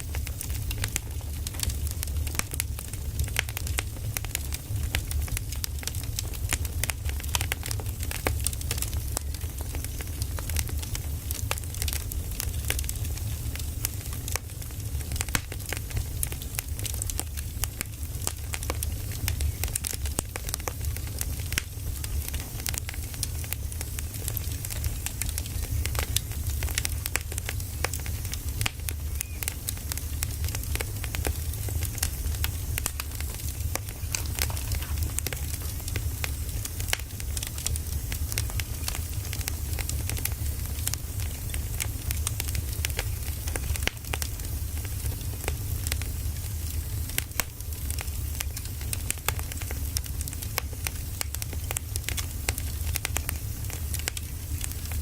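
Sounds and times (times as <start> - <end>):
firewood crackling and popping: 0.0 - 55.0
steady hiss: 0.0 - 55.0.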